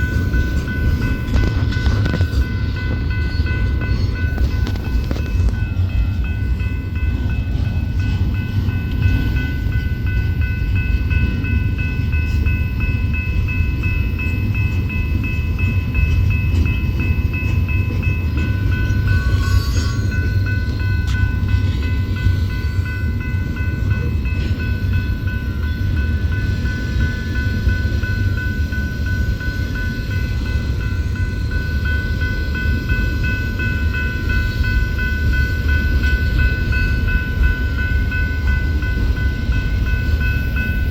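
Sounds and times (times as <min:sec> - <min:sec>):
steady high-pitched tones: 0:00.0 - 0:40.9
train rumbling by: 0:00.0 - 0:40.9.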